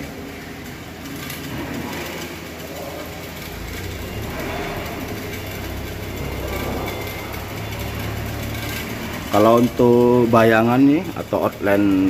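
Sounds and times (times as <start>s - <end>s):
machine hiss and low drone: 0.0s - 12.0s.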